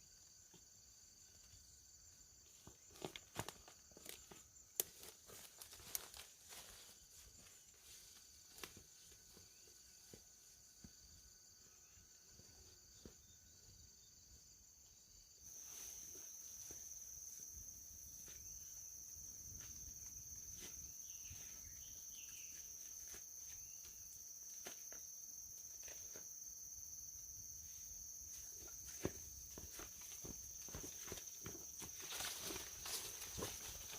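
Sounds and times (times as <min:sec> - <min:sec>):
insects droning: 0:00.0 - 0:33.9.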